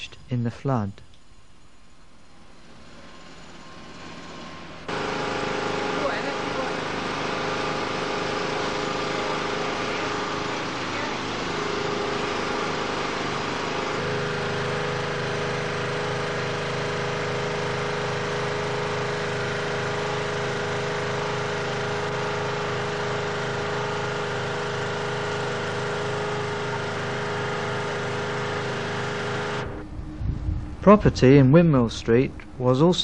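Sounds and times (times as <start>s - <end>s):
portable generator engine running: 2.6s - 30.1s.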